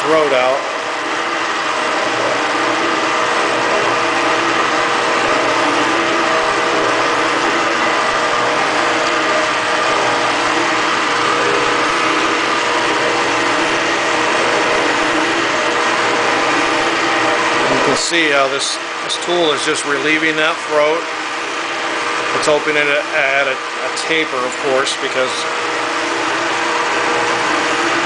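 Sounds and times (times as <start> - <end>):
machine cutter humming: 0.0 - 28.0.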